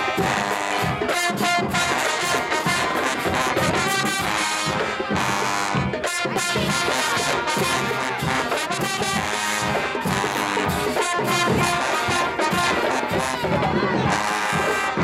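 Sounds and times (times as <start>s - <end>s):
marching band playing: 0.0s - 15.0s
trombones and trumpets: 0.0s - 15.0s.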